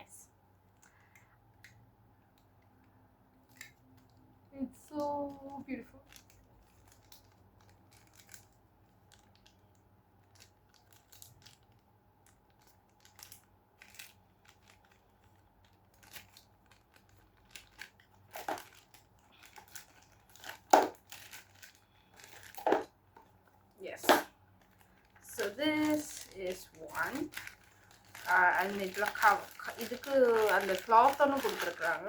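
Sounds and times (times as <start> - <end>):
packaging crinkling: 2.8 - 32.0.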